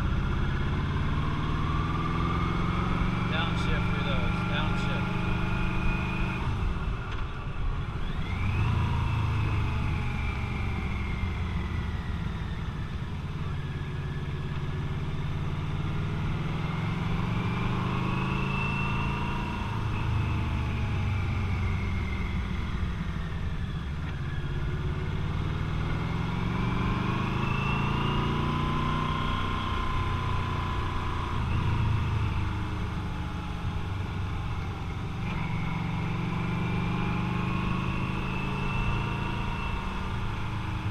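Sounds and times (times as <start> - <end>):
motorcycle engine revving: 0.0 - 7.2, 7.8 - 40.9.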